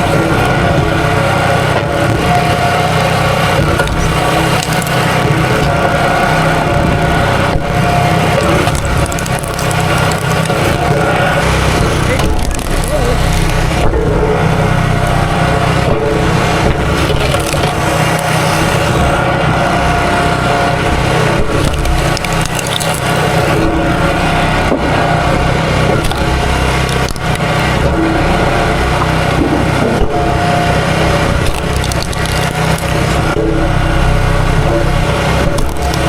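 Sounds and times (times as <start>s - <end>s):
small gas engine running: 0.0s - 36.0s
wood cracking and splintering: 0.0s - 36.0s.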